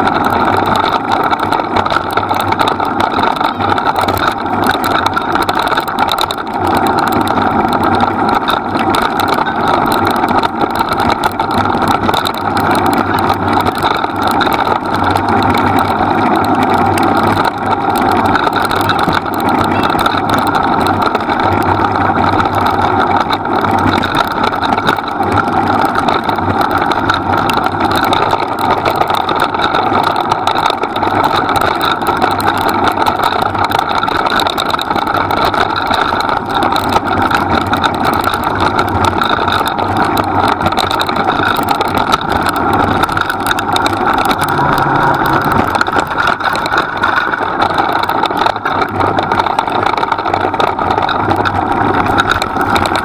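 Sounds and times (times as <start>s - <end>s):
vehicle engine running steadily: 0.0s - 53.0s.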